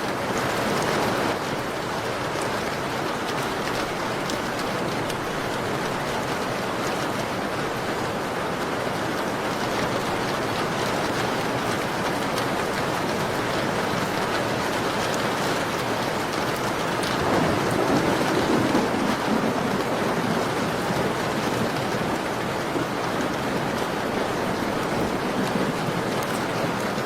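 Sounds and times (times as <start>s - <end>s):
rain pattering on a window: 0.0s - 27.0s.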